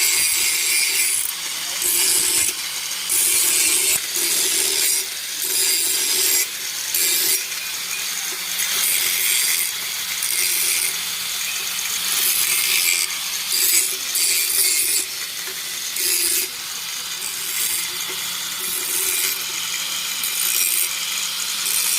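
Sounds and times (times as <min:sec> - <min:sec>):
hand tool scraping on metal: 0:00.0 - 0:21.0.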